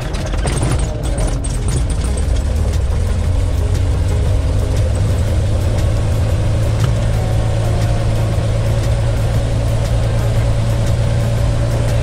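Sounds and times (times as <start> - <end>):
aircraft piston engine idling: 0.0 - 12.0.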